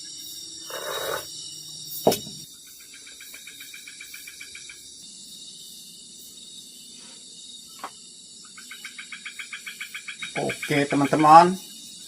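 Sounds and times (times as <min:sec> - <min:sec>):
high-pitched insect drone: 0:00.0 - 0:12.0
insect pulsed chirping trill: 0:00.0 - 0:12.0.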